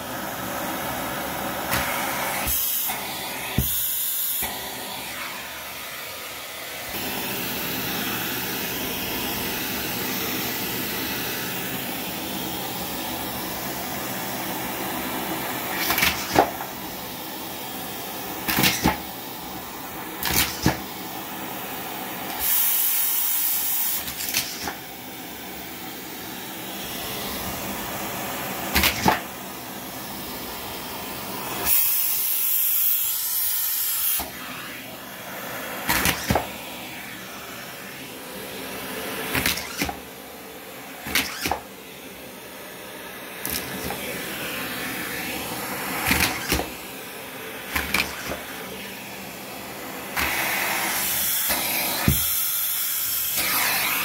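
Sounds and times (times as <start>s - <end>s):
vacuum cleaner suction hiss: 0.0s - 54.0s.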